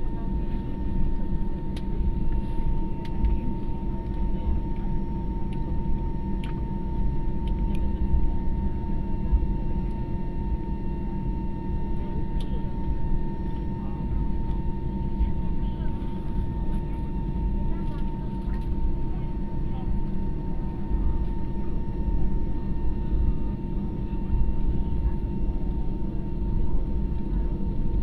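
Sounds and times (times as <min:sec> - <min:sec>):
airliner engine rumble and whine: 0:00.0 - 0:28.0.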